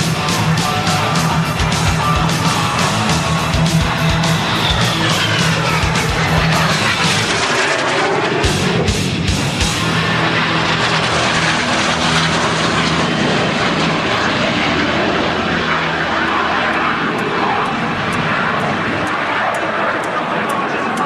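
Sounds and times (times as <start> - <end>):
propeller plane engine: 0.0 - 21.0.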